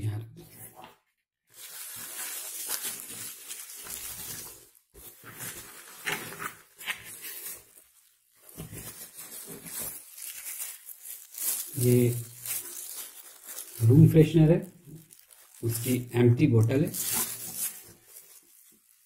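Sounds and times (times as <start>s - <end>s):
bubble wrap rustling: 1.5s - 19.0s.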